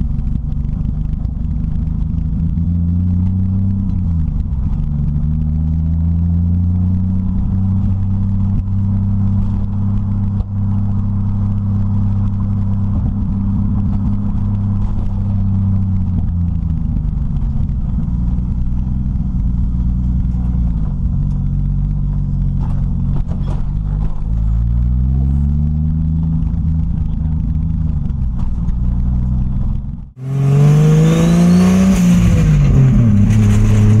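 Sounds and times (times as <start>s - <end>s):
car engine from inside cabin: 0.0s - 34.0s.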